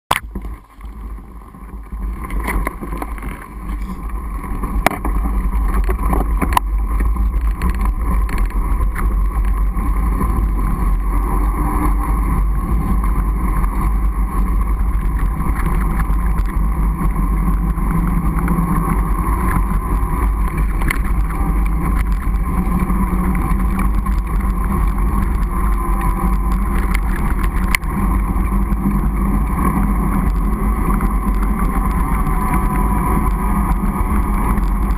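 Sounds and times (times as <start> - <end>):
bike clicks and knocks: 0.1 - 11.9, 12.8 - 34.9
wide tyres rolling over snow: 0.1 - 34.9
wind on microphone: 0.1 - 34.9.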